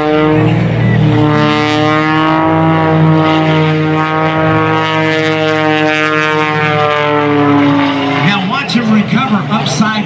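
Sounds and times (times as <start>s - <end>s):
biplane engine buzzing drone: 0.0s - 10.0s.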